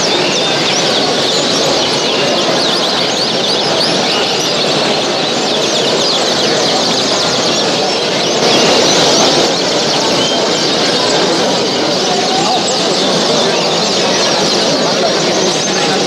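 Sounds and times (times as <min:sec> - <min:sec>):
caged birds chirping and calling: 0:00.0 - 0:16.0.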